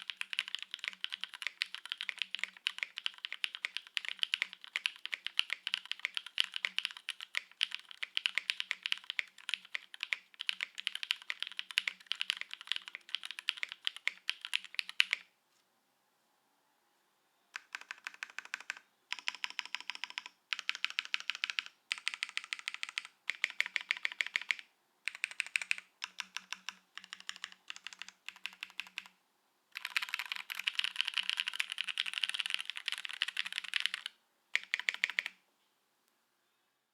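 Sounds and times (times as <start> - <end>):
mechanical keyboard typing: 0.0 - 15.3, 17.6 - 29.2, 29.8 - 35.4.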